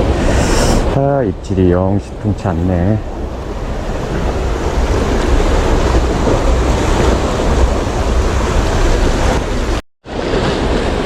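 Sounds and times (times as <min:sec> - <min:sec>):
sea waves washing: 0:00.0 - 0:11.0
wind buffeting microphone: 0:00.0 - 0:11.0.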